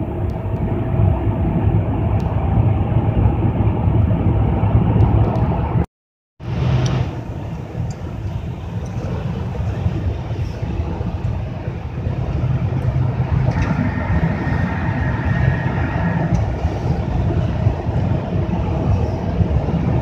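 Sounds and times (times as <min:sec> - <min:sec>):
car road and engine rumble: 0:00.0 - 0:05.8, 0:06.4 - 0:20.0.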